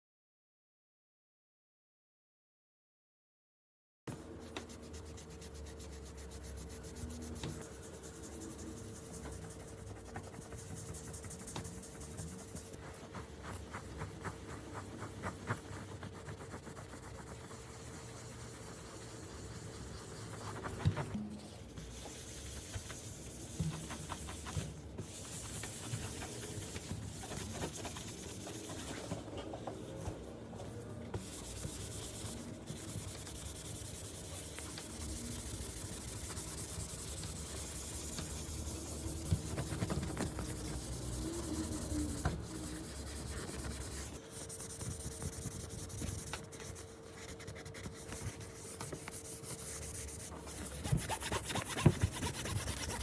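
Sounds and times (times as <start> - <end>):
rubbing and scrubbing a surface: 4.4 - 30.0, 31.2 - 53.0.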